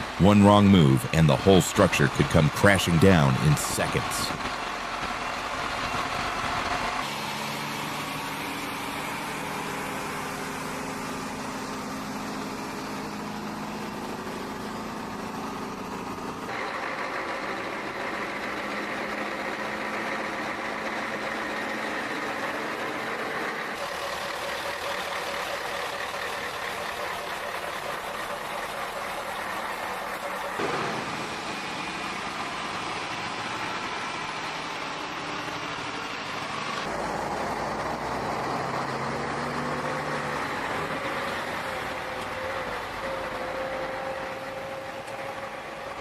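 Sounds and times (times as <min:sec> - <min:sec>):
heavy truck engines running: 0:00.0 - 0:46.0.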